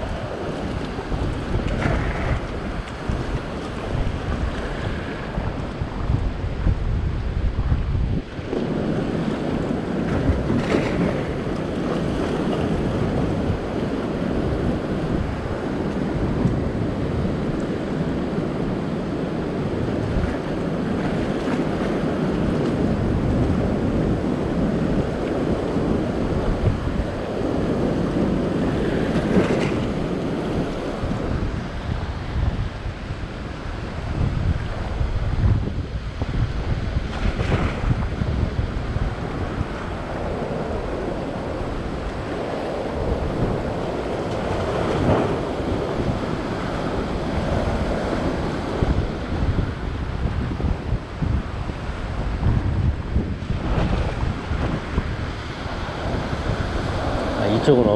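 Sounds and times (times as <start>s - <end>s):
ocean surf breaking on rocks: 0.0s - 57.9s
wind buffeting microphone: 0.0s - 57.9s.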